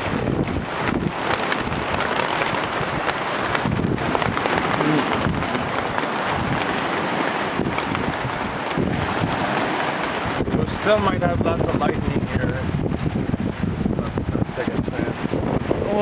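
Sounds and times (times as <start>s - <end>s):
rain falling: 0.0s - 16.0s
wind buffeting microphone: 0.0s - 16.0s.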